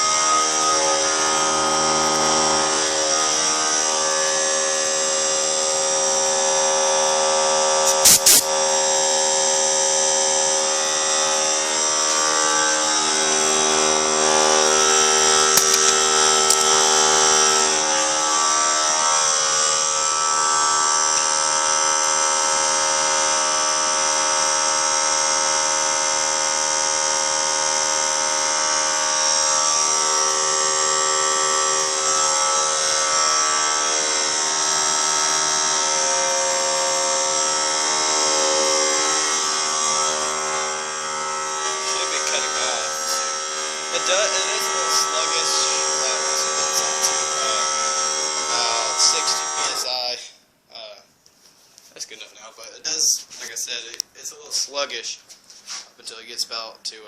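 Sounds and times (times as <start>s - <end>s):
air compressor running: 0.0s - 50.2s.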